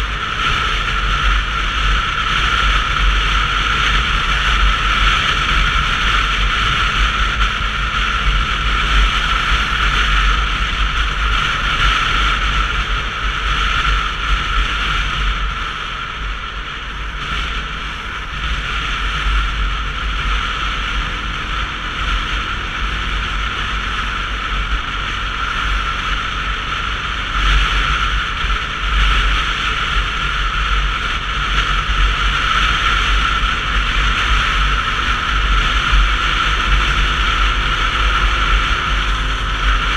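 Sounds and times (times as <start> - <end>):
motorcycle engine rumble: 0.0 - 39.9
wind and road noise: 0.0 - 39.9.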